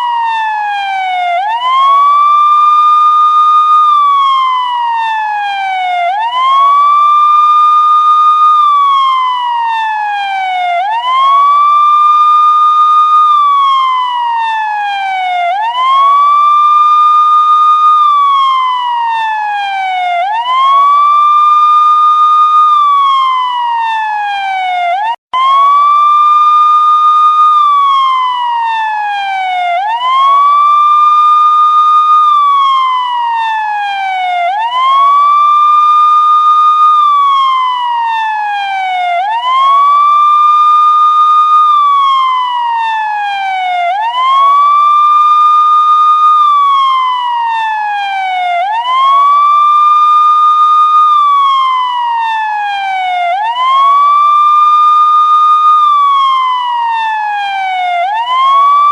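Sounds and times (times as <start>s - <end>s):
police siren wailing: 0.0s - 58.9s.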